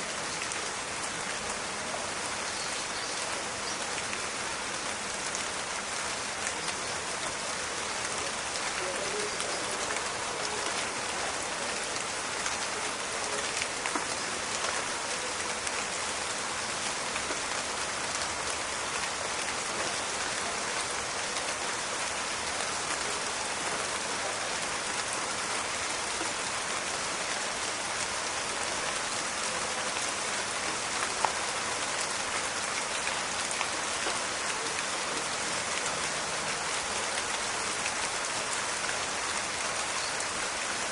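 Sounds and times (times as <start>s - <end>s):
steady rain in a forest: 0.0s - 40.9s.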